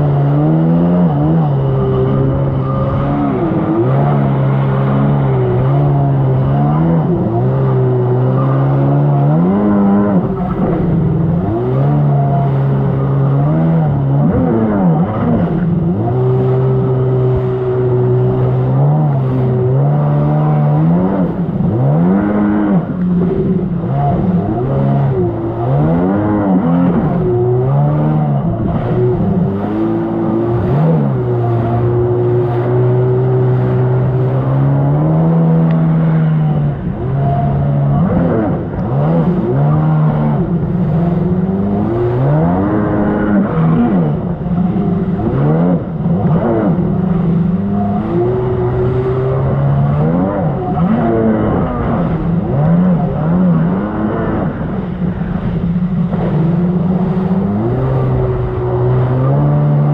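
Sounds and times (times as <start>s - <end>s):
jet ski engine running: 0.0s - 59.9s.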